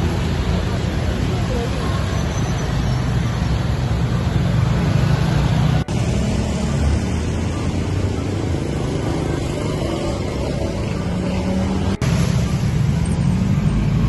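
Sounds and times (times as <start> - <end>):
car engines running: 0.0 - 14.0
distant traffic hum: 0.0 - 14.0
motorcycle engines running: 0.0 - 14.0.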